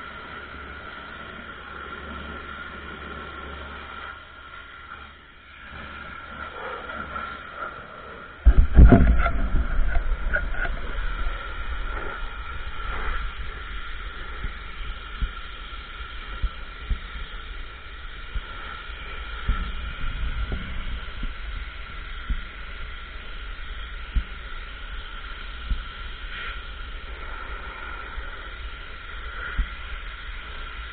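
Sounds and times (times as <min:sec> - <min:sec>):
pressure washer whine: 0:00.0 - 0:30.9
rumbling rush of water spray: 0:00.0 - 0:30.9.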